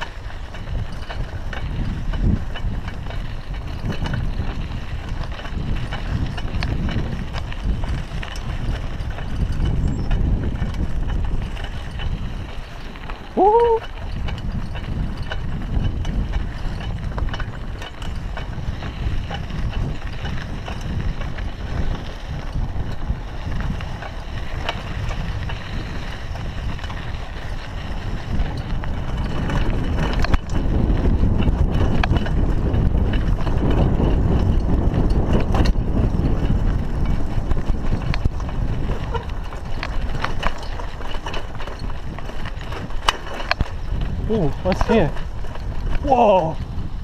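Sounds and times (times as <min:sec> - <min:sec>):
bike frame rattling and clicking: 0:00.0 - 0:47.0
bike tyres crunching on dirt: 0:00.0 - 0:47.0
wind rumbling on microphone: 0:00.0 - 0:47.0.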